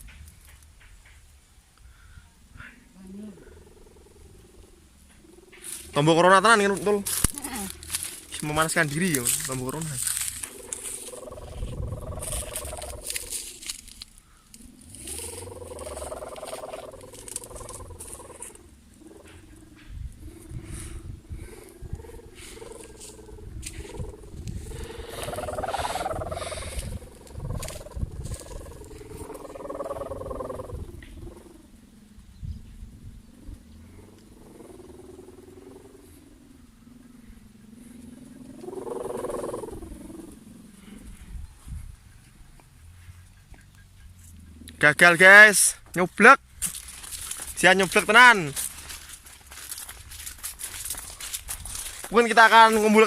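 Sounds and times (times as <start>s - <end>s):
gusting wind: 0.0s - 53.0s.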